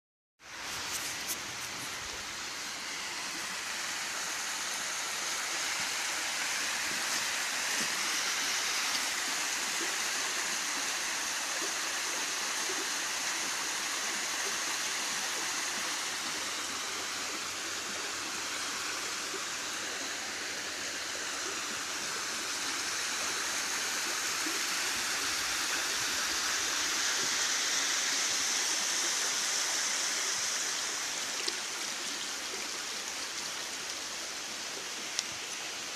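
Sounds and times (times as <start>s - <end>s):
running water rushing: 0.4s - 35.9s.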